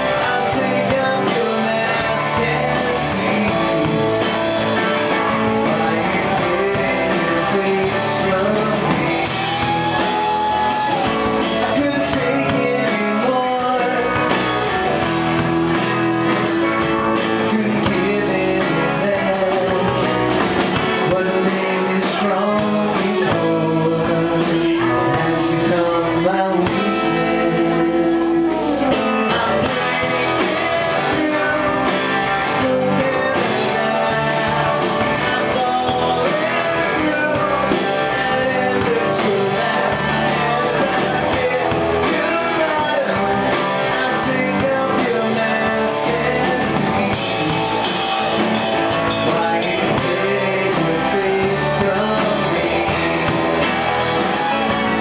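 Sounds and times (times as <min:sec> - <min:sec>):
drum kit: 0:00.0 - 0:55.0
guitars: 0:00.0 - 0:55.0
man singing: 0:00.0 - 0:55.0.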